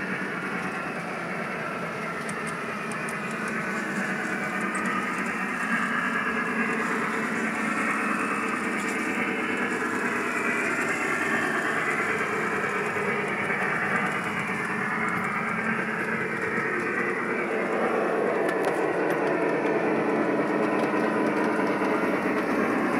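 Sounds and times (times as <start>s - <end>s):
model trains rolling on track: 0.0s - 22.9s.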